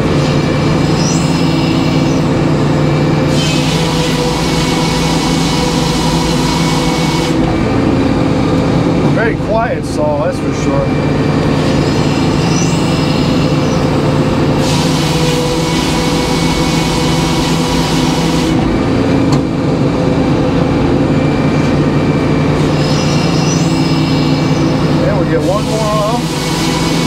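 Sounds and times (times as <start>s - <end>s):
sawmill drive drone: 0.0s - 27.0s.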